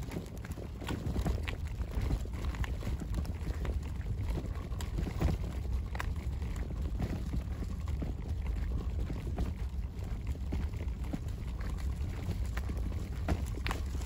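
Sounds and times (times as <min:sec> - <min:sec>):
footsteps on gritty asphalt: 0:00.0 - 0:14.0
stroller wheels crunching: 0:00.0 - 0:14.0
wind on microphone: 0:00.0 - 0:14.0.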